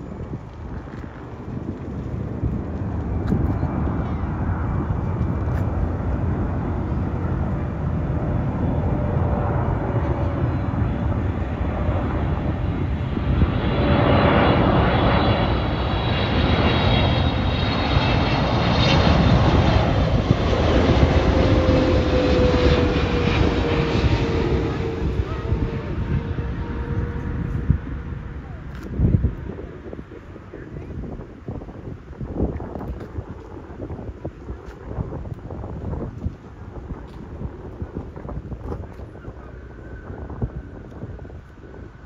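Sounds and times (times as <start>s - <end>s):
high engine whine: 0.0s - 42.0s
jet engines rumbling: 0.0s - 42.0s.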